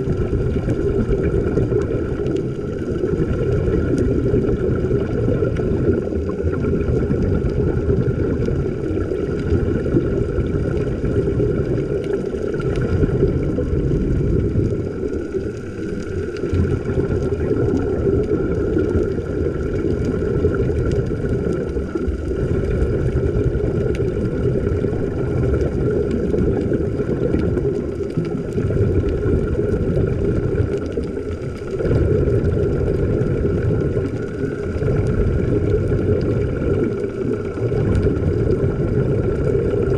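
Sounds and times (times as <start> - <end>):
underwater water rumble: 0.0 - 39.9.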